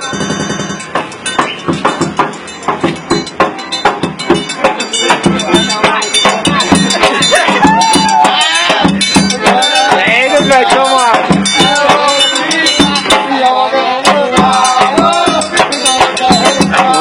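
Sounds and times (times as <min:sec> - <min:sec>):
music with singing and beat: 0:00.0 - 0:17.0.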